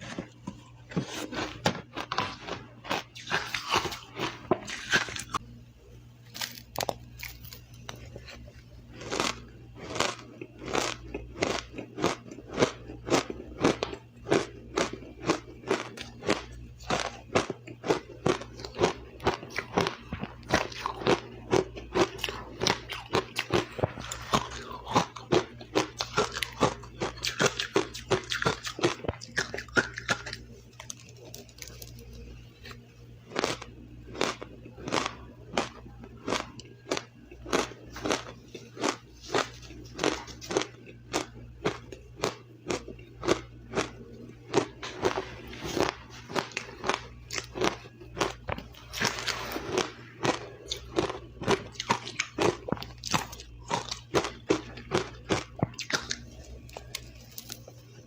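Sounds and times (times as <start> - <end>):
person crunching ice: 0.0 - 5.4, 6.3 - 32.0, 33.3 - 57.7.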